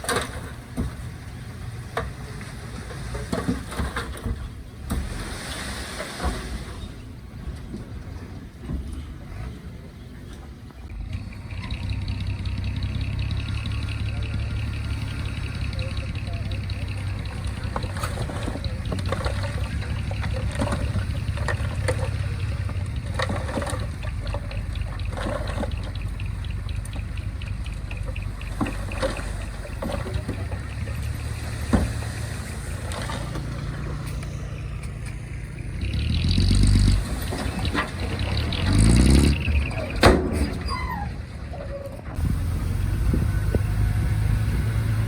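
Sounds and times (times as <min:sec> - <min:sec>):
knocks and clanks: 0:00.0 - 0:05.4, 0:06.0 - 0:41.3
heavy diesel engine running: 0:00.0 - 0:45.0.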